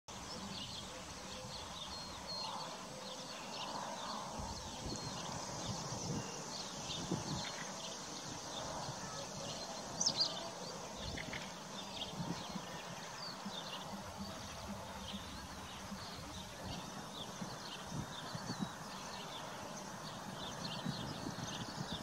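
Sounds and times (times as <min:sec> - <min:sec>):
outdoor hiss: 0:00.1 - 0:20.8.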